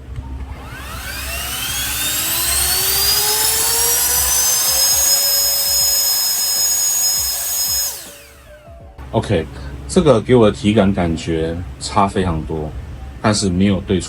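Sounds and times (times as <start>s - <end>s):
handheld blower jet-like whine: 0.0s - 14.0s.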